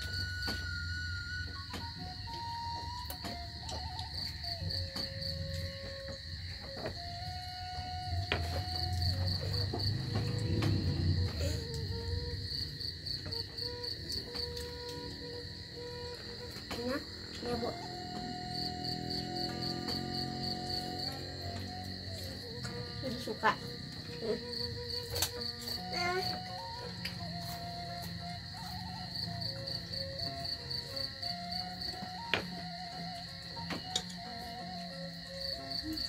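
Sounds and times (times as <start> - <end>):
crickets chirping: 0.0 - 36.0.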